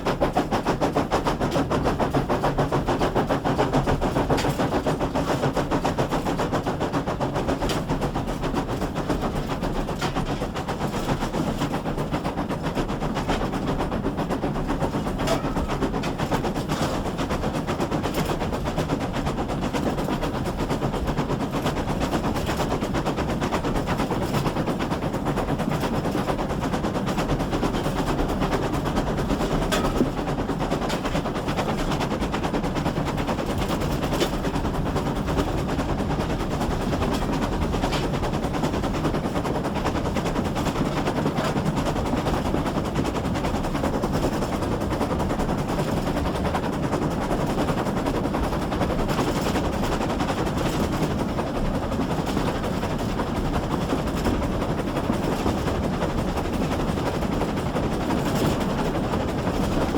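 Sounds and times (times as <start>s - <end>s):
steam locomotive exhaust beats: 0.0s - 59.9s
train wheels on rails: 0.0s - 59.9s.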